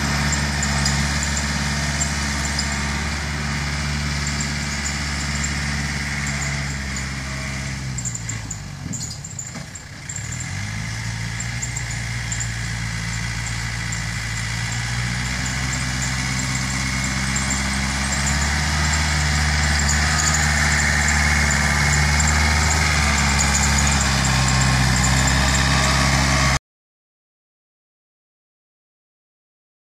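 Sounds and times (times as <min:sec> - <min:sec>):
tractor diesel engine running: 0:00.0 - 0:26.6.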